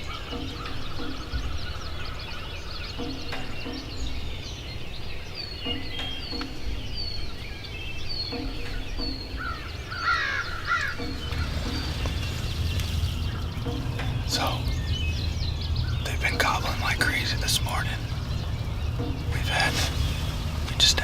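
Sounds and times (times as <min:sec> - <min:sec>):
birds chirping: 0:00.0 - 0:21.0
harsh bird calls: 0:00.0 - 0:21.0.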